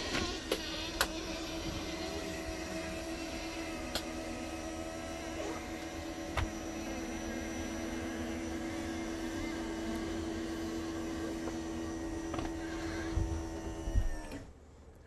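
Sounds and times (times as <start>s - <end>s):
slide-out motor humming: 0.0s - 14.5s.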